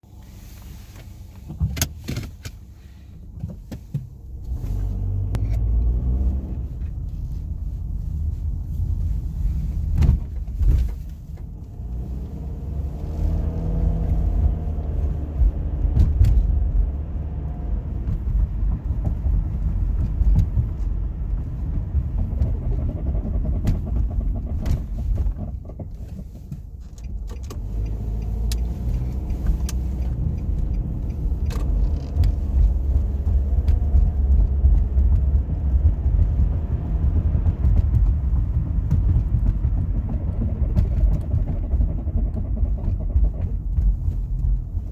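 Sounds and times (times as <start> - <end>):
car road and engine rumble: 0.0 - 44.9.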